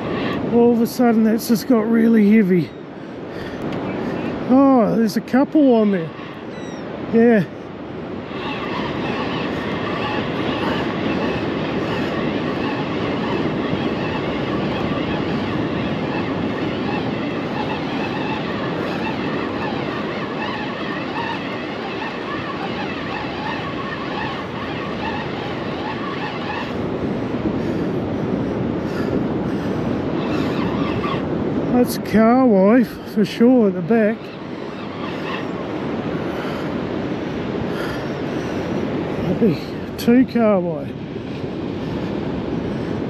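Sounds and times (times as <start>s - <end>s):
surf rushing on a beach: 0.0s - 43.0s.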